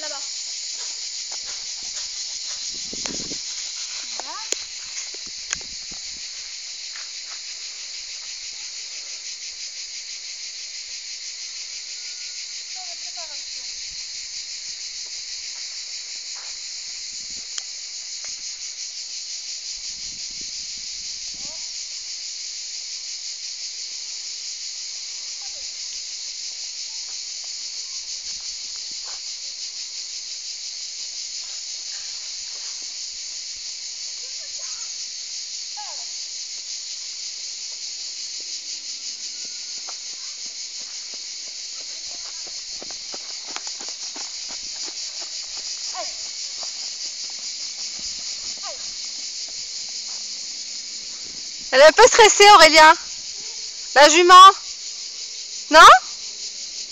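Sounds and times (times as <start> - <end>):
cicadas buzzing: 0.0 - 56.9.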